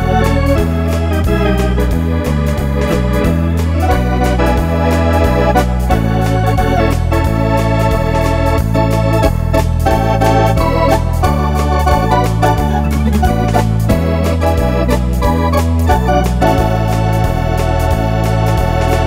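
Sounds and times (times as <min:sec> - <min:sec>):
electronic organ playing: 0:00.0 - 0:19.0
steady drum beat: 0:00.0 - 0:19.0.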